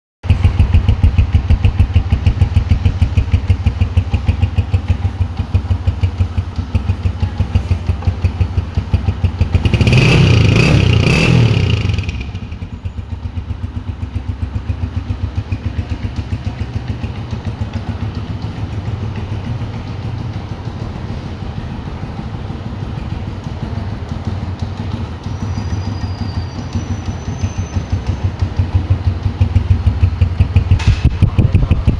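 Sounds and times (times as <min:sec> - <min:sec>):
engine idling and revving: 0:00.2 - 0:31.9.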